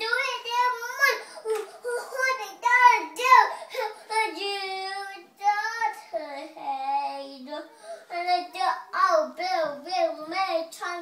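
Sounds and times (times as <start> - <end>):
toddler singing: 0.0 - 11.0.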